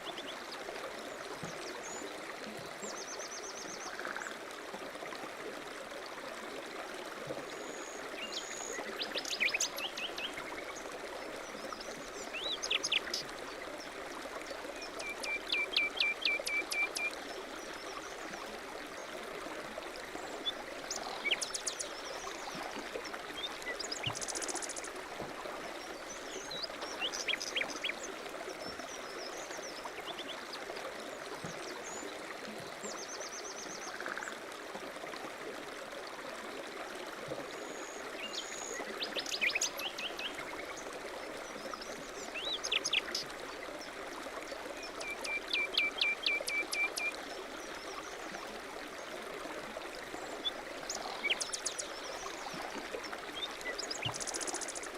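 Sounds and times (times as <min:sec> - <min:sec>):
stream running: 0:00.0 - 0:54.9.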